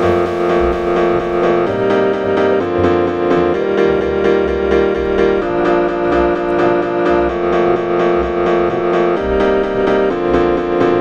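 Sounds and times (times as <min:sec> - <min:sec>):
piano instrumental music: 0:00.0 - 0:11.0.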